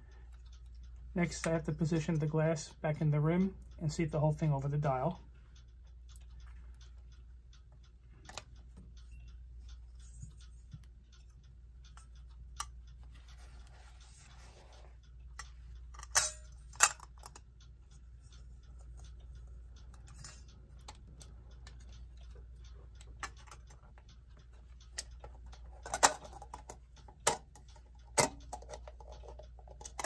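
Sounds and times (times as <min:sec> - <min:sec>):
light clicks and taps: 0:00.0 - 0:30.0.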